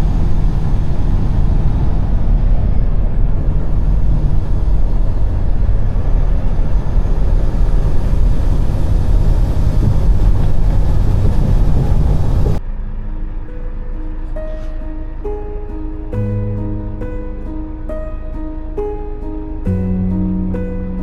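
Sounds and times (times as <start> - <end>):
low rumble of vehicle: 0.0 - 21.0.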